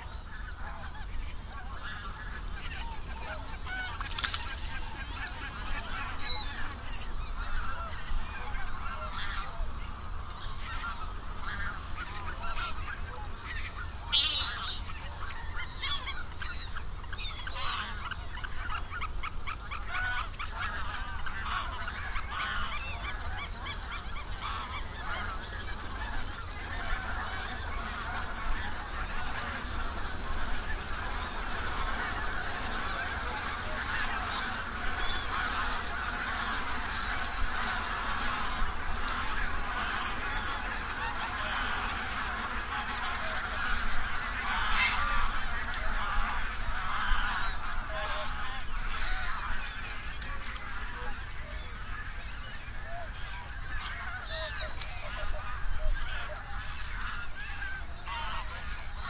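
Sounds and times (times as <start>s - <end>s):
flock of birds calling: 0.0s - 59.0s.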